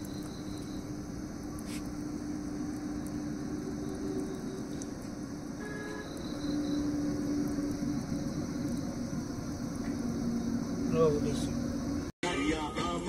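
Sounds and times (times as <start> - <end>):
electric fan whirring: 0.0 - 12.1.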